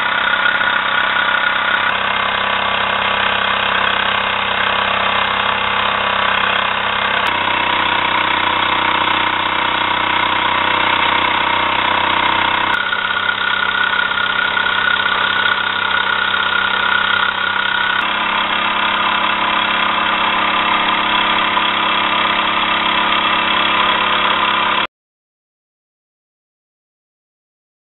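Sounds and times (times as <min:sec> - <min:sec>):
toy steam engine running: 0:00.0 - 0:24.9.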